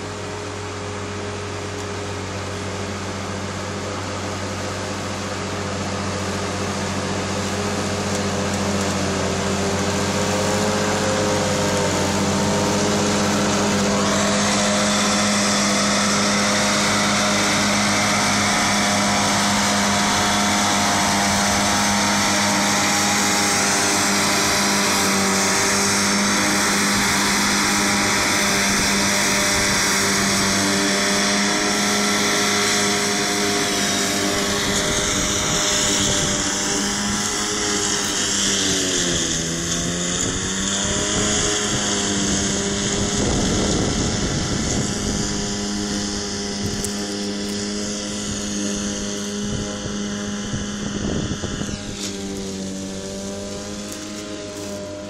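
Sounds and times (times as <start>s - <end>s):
straw chopper rushing hiss: 0.0s - 55.0s
tractor engine running: 0.0s - 55.0s.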